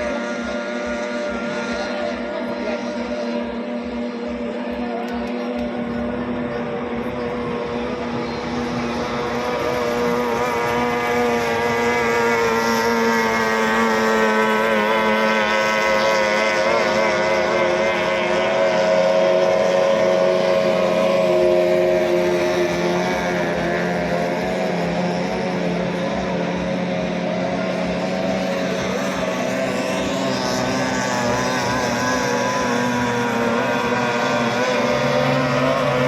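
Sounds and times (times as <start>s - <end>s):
outboard motors running hard: 0.0s - 36.0s.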